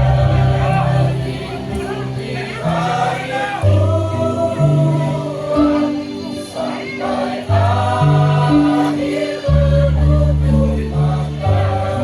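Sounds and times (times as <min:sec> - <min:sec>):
held bass notes: 0:00.0 - 0:05.3, 0:07.5 - 0:12.0
choir singing in harmony: 0:00.0 - 0:12.0.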